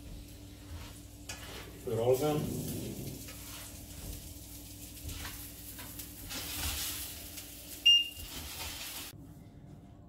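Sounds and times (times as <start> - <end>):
pies sizzling in frying pan: 0.0 - 9.2.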